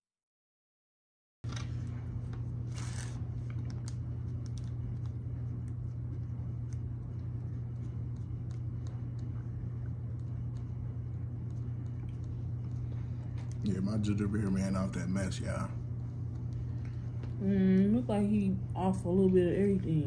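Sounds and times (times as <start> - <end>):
steady low hum: 1.5 - 20.0.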